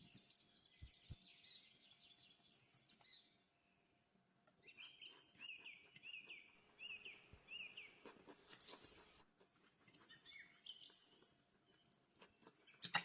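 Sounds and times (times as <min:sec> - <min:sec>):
faint bird chirps: 0:00.0 - 0:04.0, 0:04.6 - 0:13.0.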